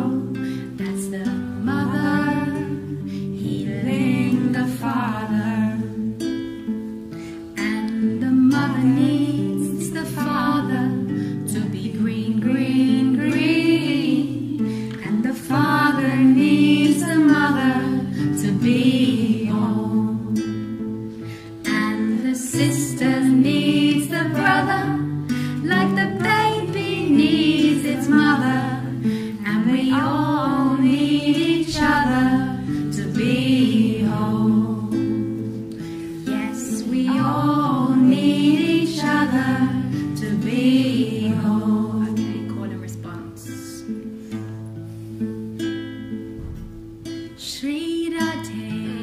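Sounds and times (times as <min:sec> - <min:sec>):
person singing devotional song: 0:00.0 - 0:06.0, 0:07.6 - 0:20.4, 0:21.7 - 0:43.2
acoustic guitar: 0:00.0 - 0:49.0.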